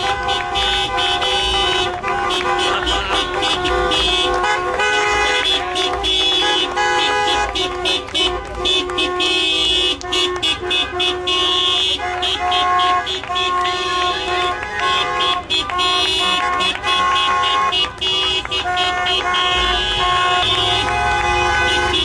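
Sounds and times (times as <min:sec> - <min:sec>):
car horns honking: 0:00.0 - 0:22.0.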